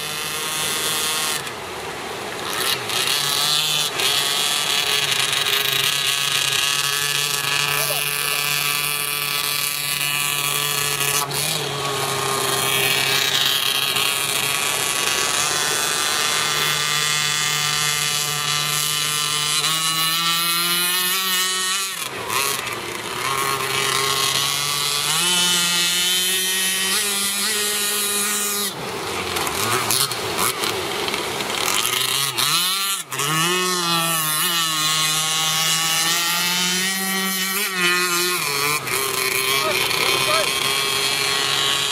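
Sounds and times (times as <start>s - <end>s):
two-stroke boat engine revving: 0.0s - 41.9s.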